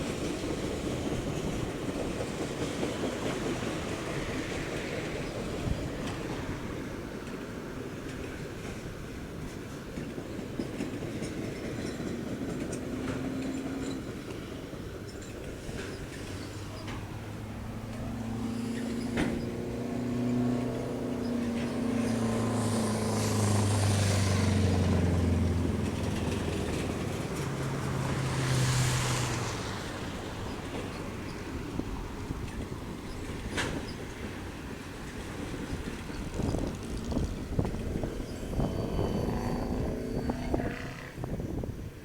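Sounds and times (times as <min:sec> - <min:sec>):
diesel train engine drone: 0:00.0 - 0:42.0.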